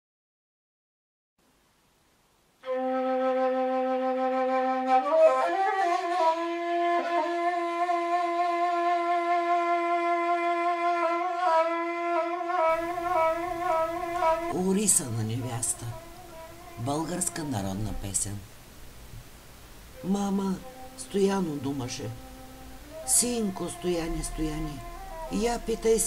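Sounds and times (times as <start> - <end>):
wind instrument holding long notes: 2.6 - 18.0, 20.0 - 26.0.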